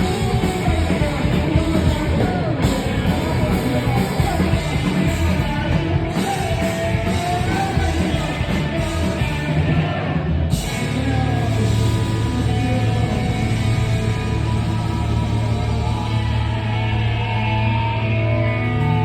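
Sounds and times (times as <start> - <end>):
rock band playing live: 0.0 - 19.0
singer shouting and singing: 0.0 - 19.0.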